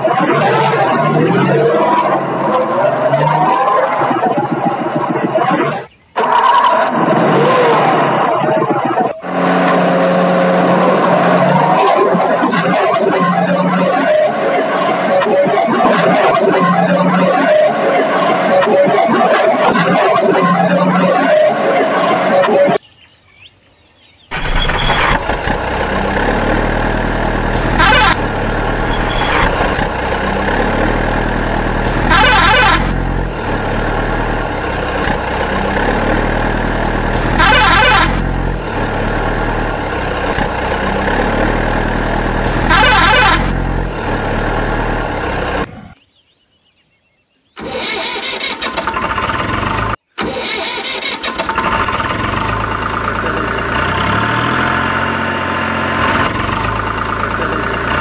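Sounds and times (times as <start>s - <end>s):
vehicle engine running: 0.0s - 6.0s, 6.8s - 22.8s, 24.3s - 46.0s, 48.8s - 50.1s, 51.5s - 58.0s.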